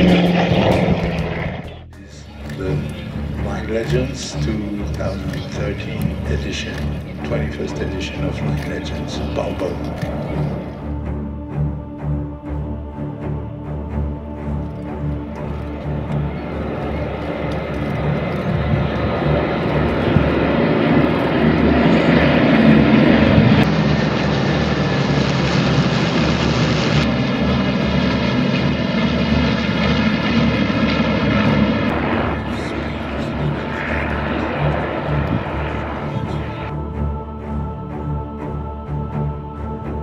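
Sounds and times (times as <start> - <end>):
propeller plane engines droning: 0.0 - 40.0.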